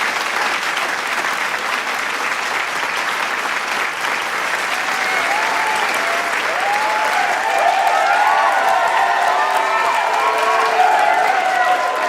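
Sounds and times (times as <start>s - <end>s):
crowd clapping and cheering: 0.0s - 12.0s.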